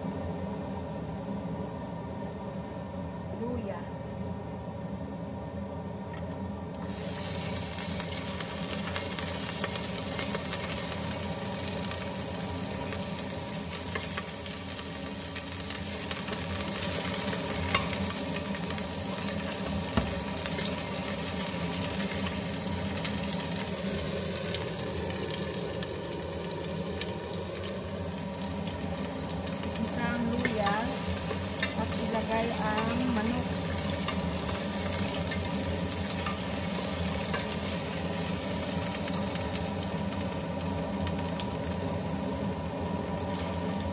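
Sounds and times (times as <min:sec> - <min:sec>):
ginger sizzling in a pot: 0:06.8 - 0:43.9.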